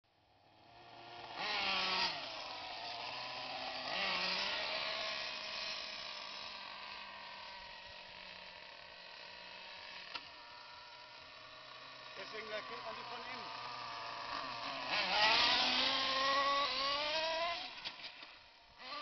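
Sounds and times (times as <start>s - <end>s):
model car motor whining: 0.2s - 19.0s.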